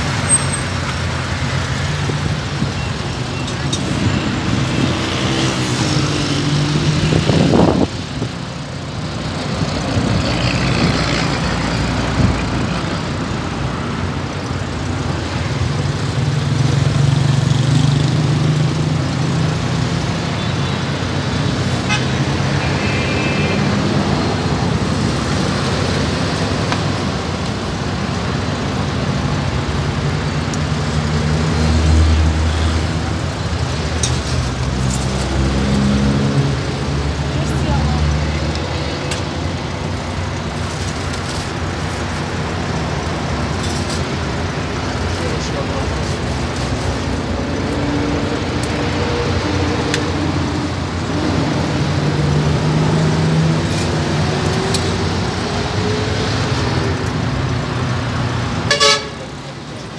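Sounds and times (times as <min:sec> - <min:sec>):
car engines running: 0:00.0 - 0:59.9
vehicles passing: 0:00.0 - 0:59.9.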